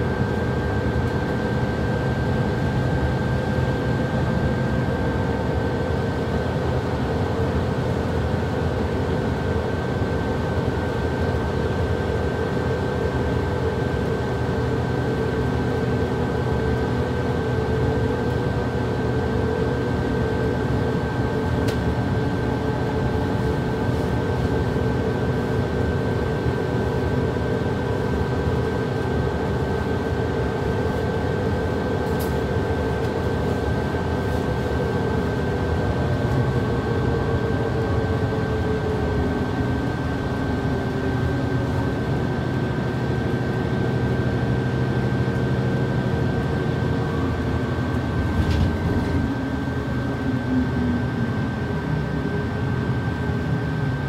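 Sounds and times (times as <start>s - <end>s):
bus engine and drivetrain: 0.0s - 54.0s.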